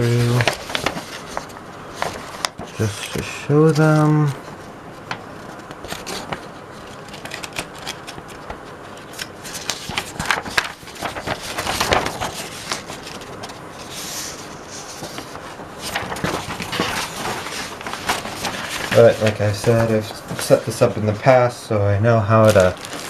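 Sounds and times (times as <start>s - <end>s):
paper pages flipping: 0.0s - 21.4s, 22.3s - 23.0s.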